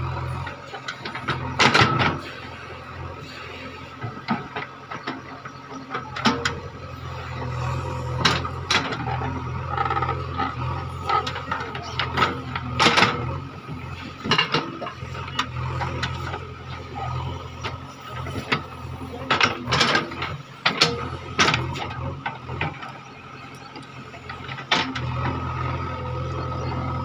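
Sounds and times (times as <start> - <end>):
diesel engine running under load: 0.0 - 27.0
metallic clanks and squeaks: 0.1 - 27.0.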